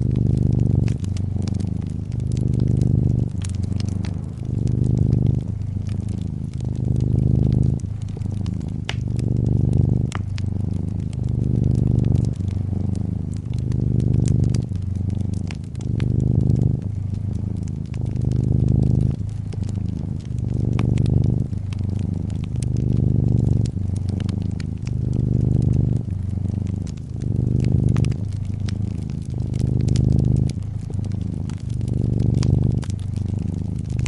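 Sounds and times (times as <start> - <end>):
cat purring: 0.0 - 34.0
wood fire crackling and popping: 0.0 - 34.0.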